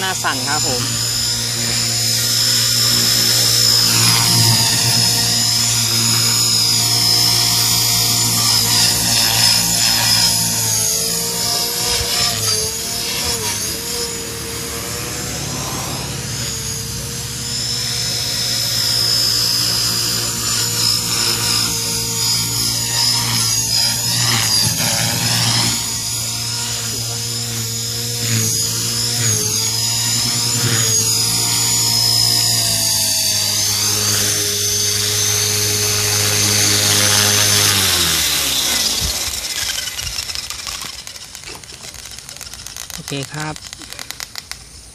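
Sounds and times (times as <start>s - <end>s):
helicopter rotor whine: 0.0s - 44.9s.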